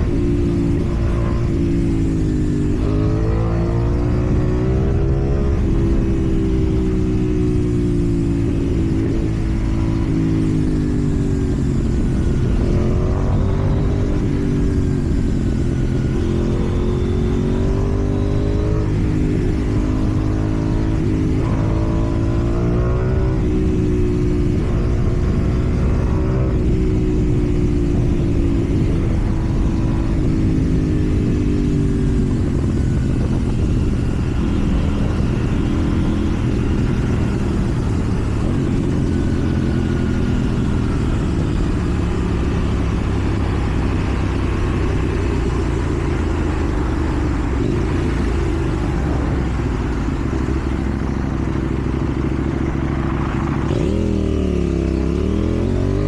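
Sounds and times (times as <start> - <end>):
motorcycle engine revving while riding: 0.0 - 56.0.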